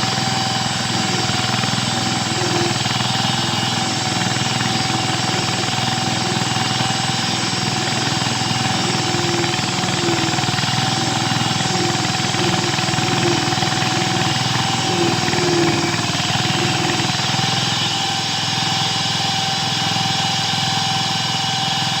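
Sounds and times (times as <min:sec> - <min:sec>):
diesel engine chugging with whine: 0:00.0 - 0:22.0.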